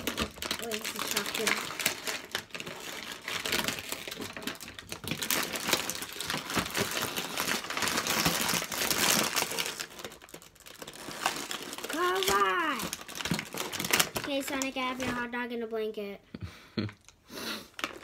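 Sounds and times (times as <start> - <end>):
plastic packaging crinkling: 0.0 - 15.7, 17.7 - 18.0.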